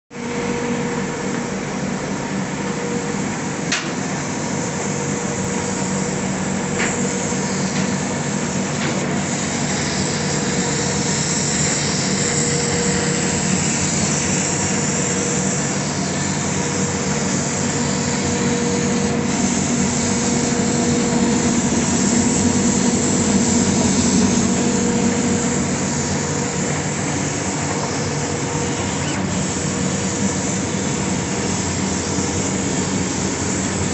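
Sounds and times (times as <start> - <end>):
laser cutting machine hum: 0.2 - 33.9.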